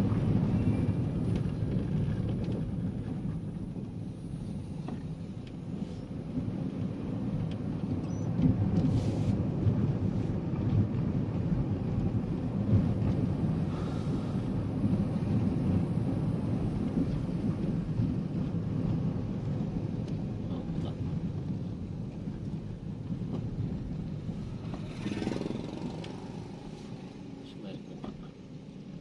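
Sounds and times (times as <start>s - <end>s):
road and engine rumble in car: 0.0s - 29.0s.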